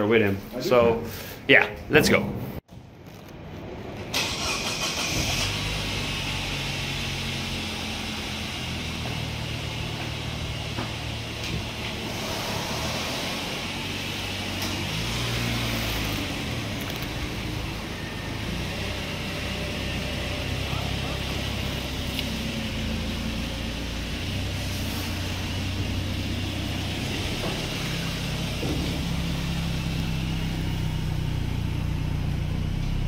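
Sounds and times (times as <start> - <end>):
car engine idling: 4.2 - 33.0.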